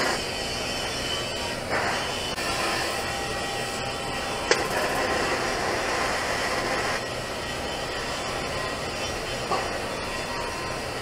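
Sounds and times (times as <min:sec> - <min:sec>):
welding hiss and hum: 0:00.0 - 0:11.0.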